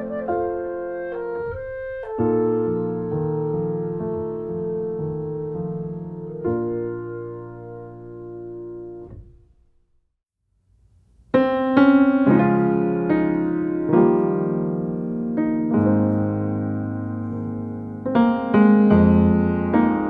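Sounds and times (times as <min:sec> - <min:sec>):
piano music: 0:00.0 - 0:09.3, 0:11.3 - 0:20.0.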